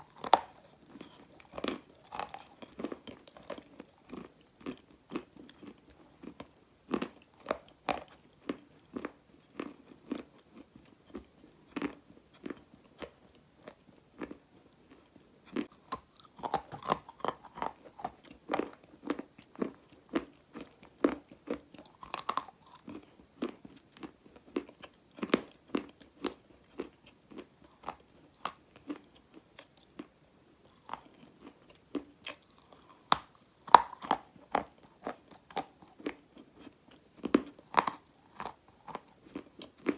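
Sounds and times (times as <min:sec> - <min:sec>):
clay being chewed crunching: 0:00.0 - 0:39.9.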